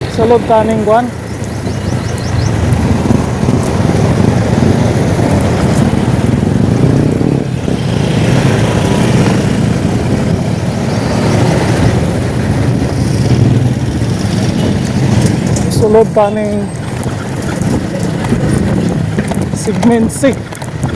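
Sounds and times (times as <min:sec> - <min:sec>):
road vehicle rumbling: 0:00.0 - 0:20.9.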